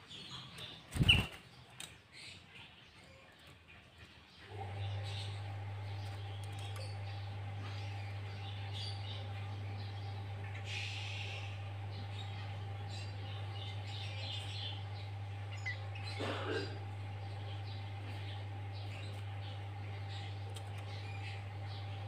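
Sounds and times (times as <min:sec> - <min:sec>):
bird calls and chirps: 0:00.0 - 0:22.0
low electrical hum: 0:00.0 - 0:22.0.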